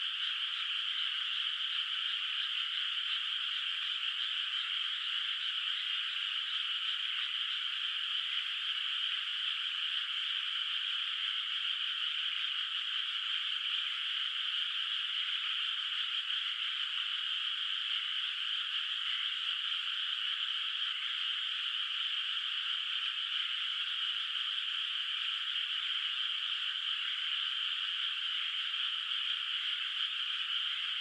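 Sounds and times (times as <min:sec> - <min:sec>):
chorus of frogs calling: 0:00.0 - 0:31.0.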